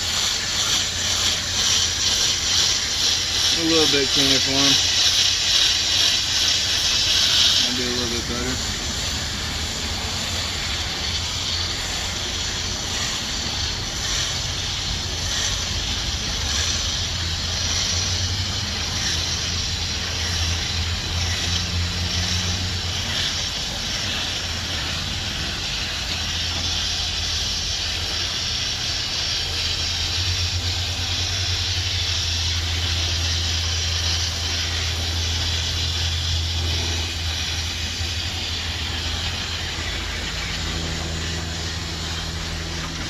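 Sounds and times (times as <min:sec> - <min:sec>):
hose water spraying: 0:00.0 - 0:43.0
steady low hum: 0:00.0 - 0:43.0.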